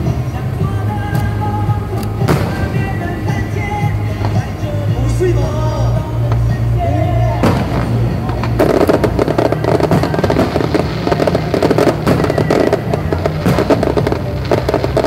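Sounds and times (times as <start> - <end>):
fireworks cracking: 0.0 - 15.0
music playing: 0.0 - 15.0.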